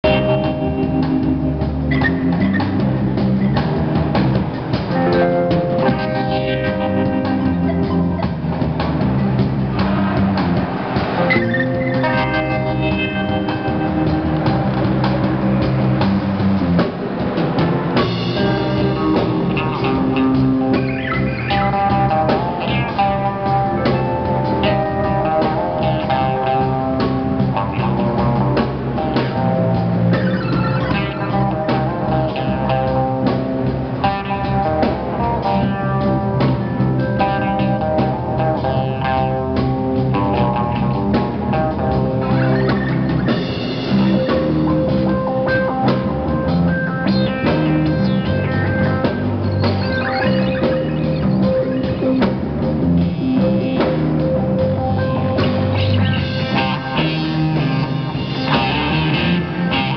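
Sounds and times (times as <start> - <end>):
drum kit beat: 0.0 - 59.9
electric guitars: 0.0 - 59.9
keyboard: 0.0 - 59.9.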